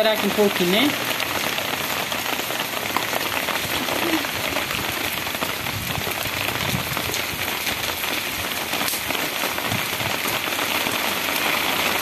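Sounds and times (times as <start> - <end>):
rain on cobblestones: 0.0 - 12.0.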